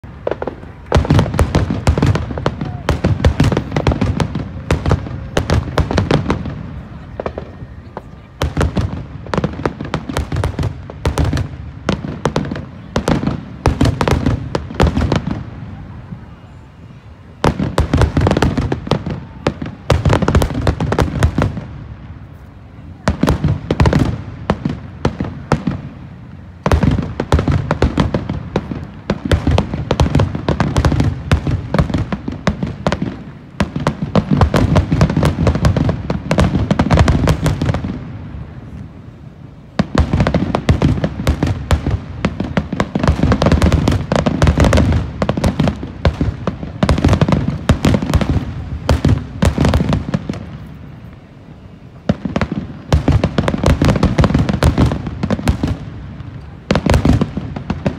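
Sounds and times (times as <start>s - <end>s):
deep fireworks booms: 0.0s - 57.9s
fireworks bursting and crackling: 0.0s - 57.9s.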